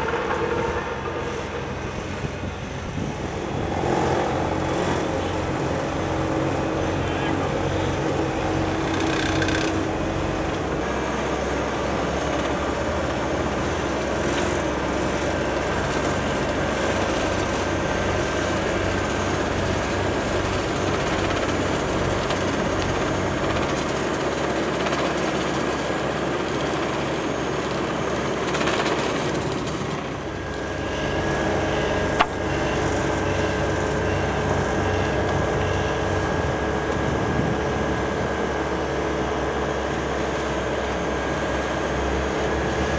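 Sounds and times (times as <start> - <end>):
asphalt paver running: 0.0 - 42.9.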